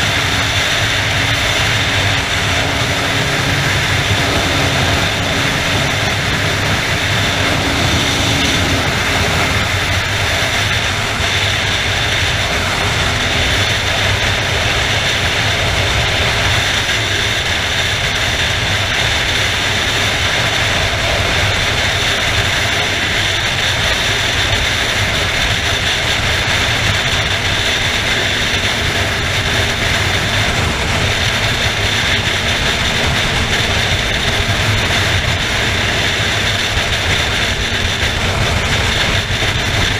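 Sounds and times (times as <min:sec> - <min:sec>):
motorcycle engine drone: 0:00.0 - 0:39.9
wind roaring over microphone: 0:00.0 - 0:39.9.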